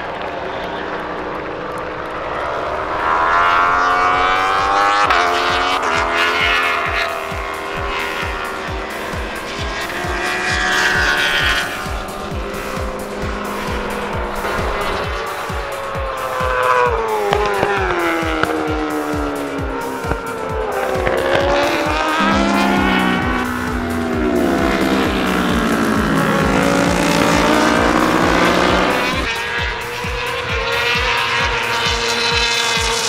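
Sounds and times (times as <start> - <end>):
racing motorcycle engines: 0.0 - 33.0
music with fast drum beat: 5.1 - 33.0.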